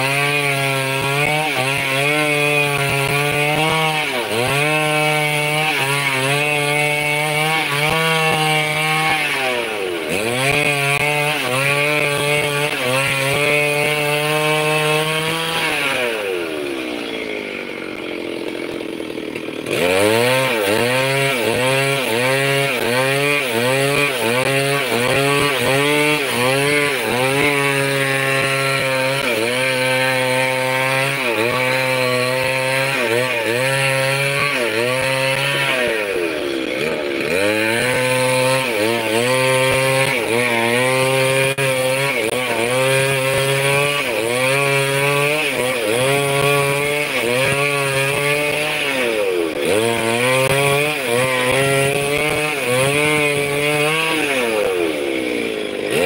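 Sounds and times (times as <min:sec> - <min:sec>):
chainsaw ripping timber: 0:00.0 - 0:56.0.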